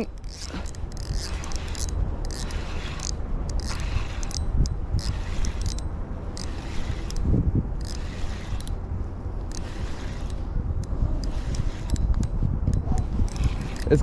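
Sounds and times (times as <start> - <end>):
fishing reel scraping and clicking: 0.0 - 14.0
wind rumble on microphone: 0.0 - 14.0.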